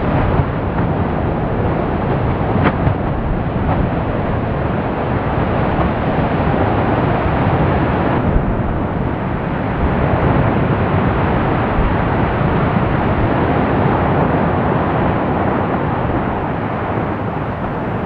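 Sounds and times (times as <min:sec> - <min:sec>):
lava fountain rushing rumble: 0:00.0 - 0:18.0.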